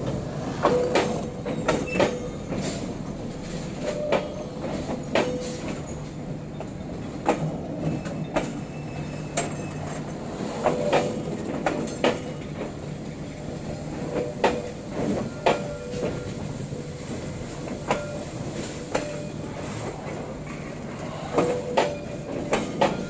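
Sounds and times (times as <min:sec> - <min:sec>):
train wheels clacking over rail joints: 0:00.0 - 0:23.0.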